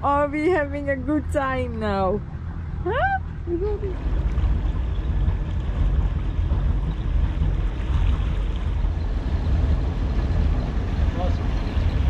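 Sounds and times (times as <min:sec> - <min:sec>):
motorboat engine rumble: 0:00.0 - 0:12.0
water noise: 0:00.0 - 0:12.0
wind: 0:00.0 - 0:12.0.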